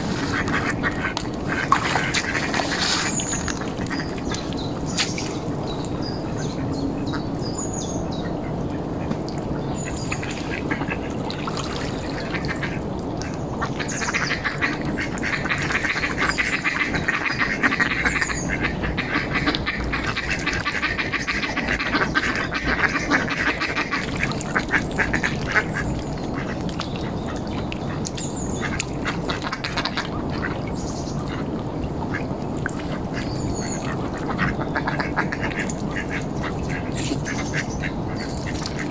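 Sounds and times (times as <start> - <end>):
ducks quacking: 0.0 - 7.3, 9.8 - 38.9.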